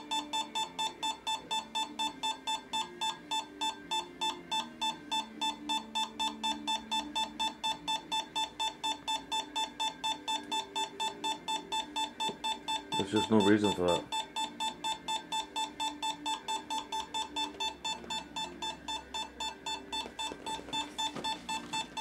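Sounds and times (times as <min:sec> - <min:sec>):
meter alarm high-pitched beeps: 0:00.0 - 0:22.0.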